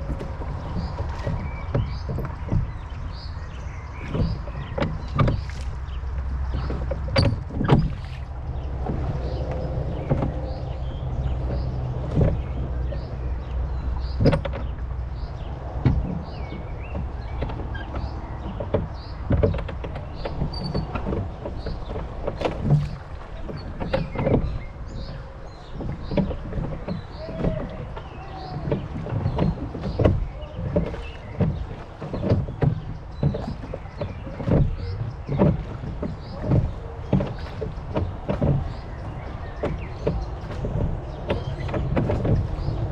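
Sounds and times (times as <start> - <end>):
oars knocking and creaking: 0.0 - 42.9
water lapping at hull: 0.0 - 42.9
wind rumble on microphone: 0.0 - 42.9
small birds chirping: 0.2 - 42.9.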